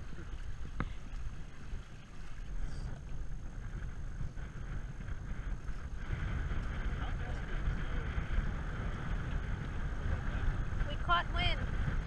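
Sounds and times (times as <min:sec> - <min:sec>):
water rushing along hulls: 0:00.0 - 0:12.0
wind buffeting microphone: 0:00.0 - 0:12.0.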